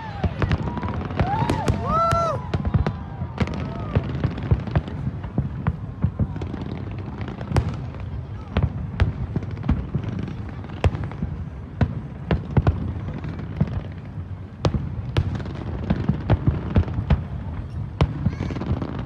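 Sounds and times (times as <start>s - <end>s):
distant fireworks rumble: 0.0s - 19.0s
fireworks sharp bangs: 0.0s - 19.0s.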